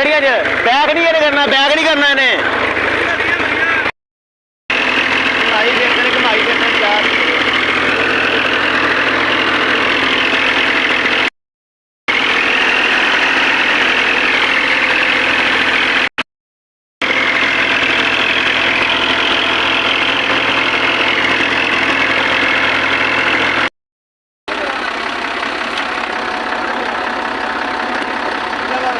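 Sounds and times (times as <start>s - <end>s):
tractor diesel engine running: 0.0s - 4.0s, 4.7s - 11.3s, 12.1s - 16.2s, 17.0s - 23.7s, 24.5s - 28.9s.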